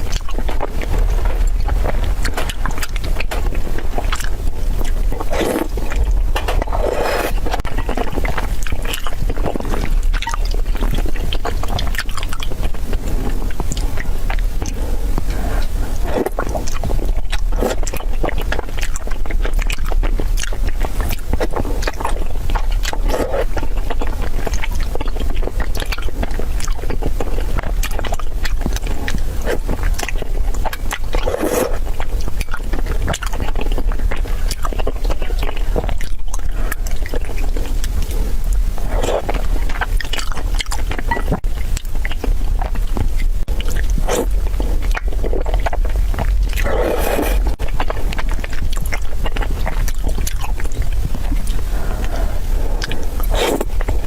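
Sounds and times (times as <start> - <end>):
chewing with clicks and crackles: 0.0 - 54.0
steady low hum: 0.0 - 54.0.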